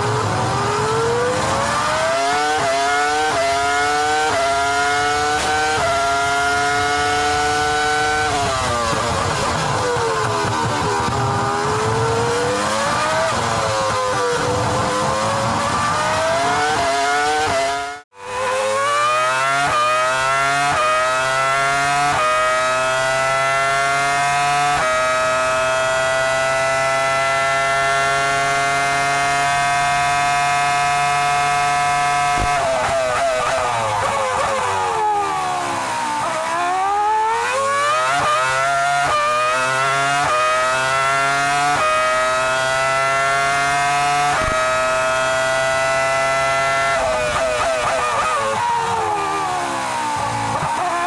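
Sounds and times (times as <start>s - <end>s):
racing engine at high revs: 0.0s - 51.0s.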